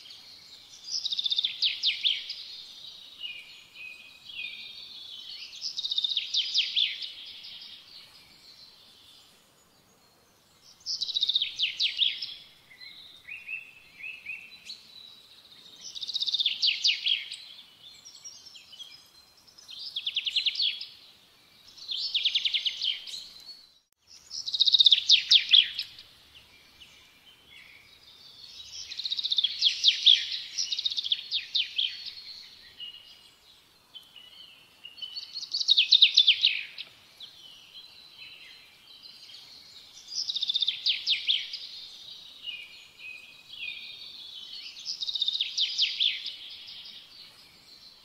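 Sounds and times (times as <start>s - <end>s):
quiet bird twittering: 0.0s - 48.0s.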